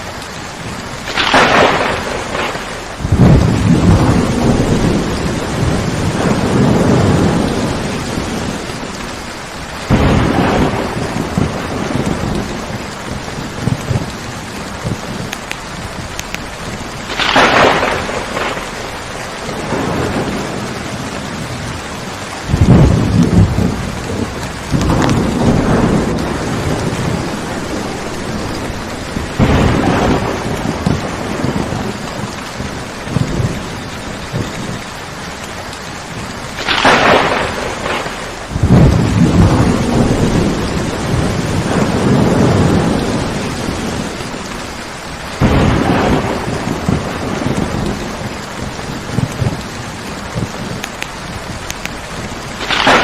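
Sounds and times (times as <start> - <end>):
low thunder rumbles: 0.0 - 53.0
steady rain: 0.0 - 53.0
sharp thunder crack: 1.0 - 8.8, 9.8 - 21.7, 22.4 - 34.8, 36.5 - 44.3, 45.4 - 53.0.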